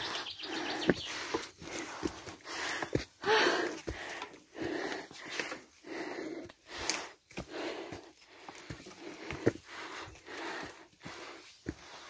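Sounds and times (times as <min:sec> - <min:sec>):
footsteps on wooden steps: 0:00.0 - 0:12.0
heavy panting breaths: 0:00.0 - 0:12.0.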